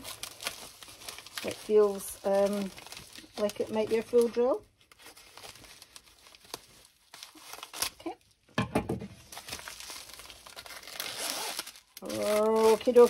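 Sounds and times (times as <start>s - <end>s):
packaging crinkling and rustling: 0.0s - 8.5s, 9.1s - 13.0s.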